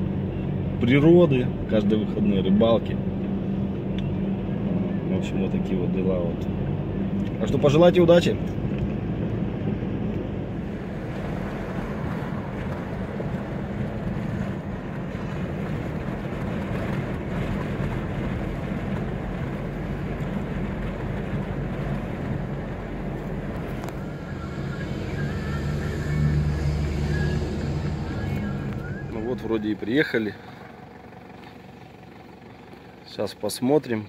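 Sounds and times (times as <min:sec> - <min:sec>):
car engine: 0:00.0 - 0:34.0
road noise: 0:00.0 - 0:34.0.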